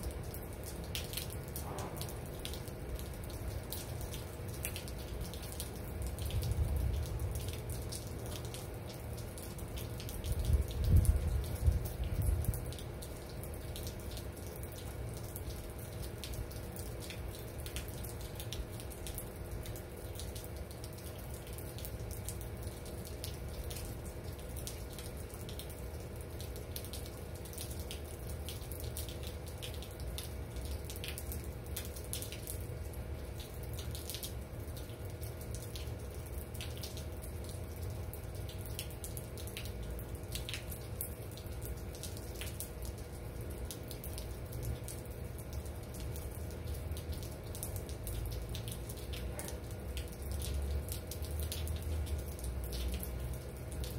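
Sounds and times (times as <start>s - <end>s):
rain drops ticking: 0.0s - 53.9s.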